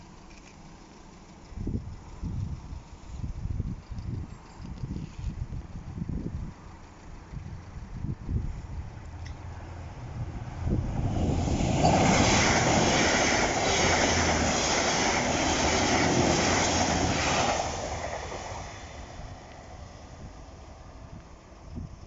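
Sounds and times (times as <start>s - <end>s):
train engine rumble: 0.0s - 22.0s
wheels on rails: 0.2s - 22.0s.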